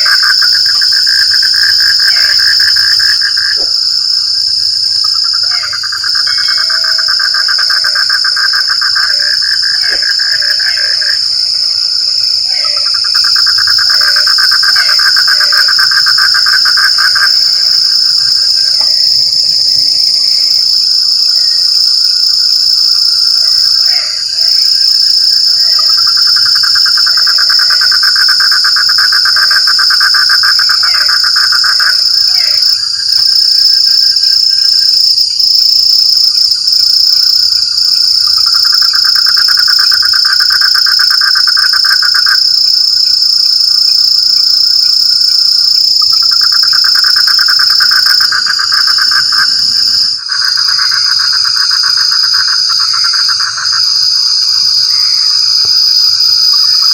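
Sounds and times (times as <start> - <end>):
frog croaks: 0.0 - 56.9
frogs trilling in chorus: 0.0 - 56.9
high-pitched insect trill: 0.0 - 56.9.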